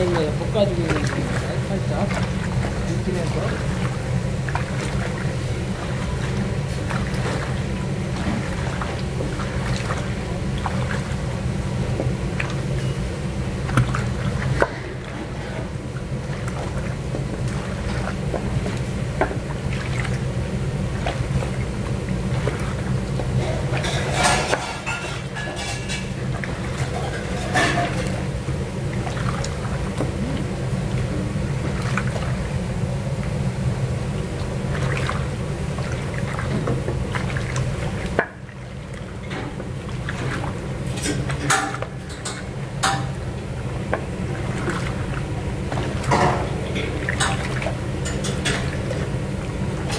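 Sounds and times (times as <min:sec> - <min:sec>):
steady low hum: 0:00.0 - 0:49.9
wet chicken squelching in pot: 0:00.0 - 0:49.9.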